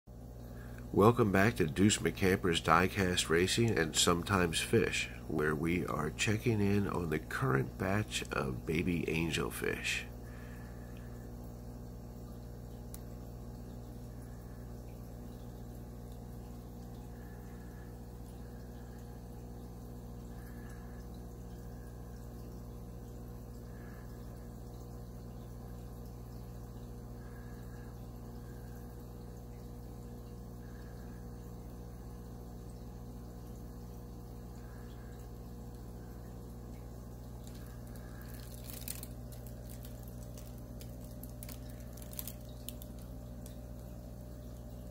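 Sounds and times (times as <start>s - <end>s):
aquarium filter pump humming: 0.1s - 44.9s
faint water movement: 0.1s - 44.9s.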